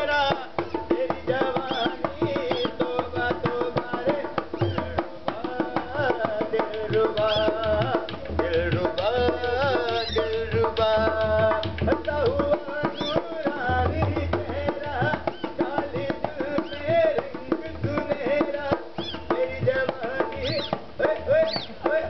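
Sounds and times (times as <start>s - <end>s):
fast hand-drum strokes: 0.0s - 22.0s.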